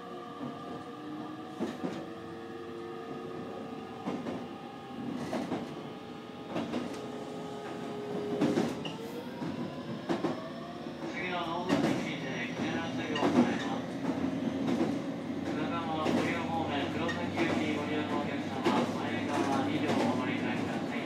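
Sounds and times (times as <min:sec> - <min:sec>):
electric train whine: 0:00.0 - 0:18.5.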